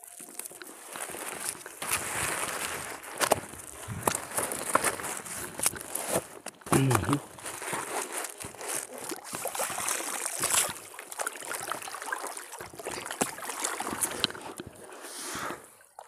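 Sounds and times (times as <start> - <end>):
water splashing by hands: 0.0 - 16.0.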